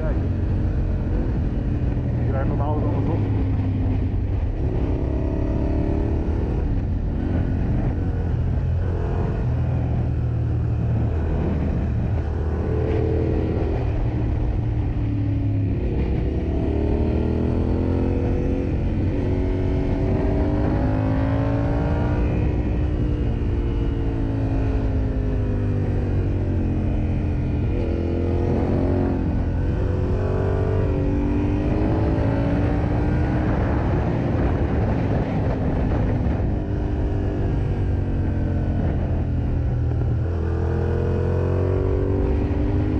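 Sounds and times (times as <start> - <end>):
motorcycle engine revving: 0.0 - 42.9
wind and road rumble: 0.0 - 42.9.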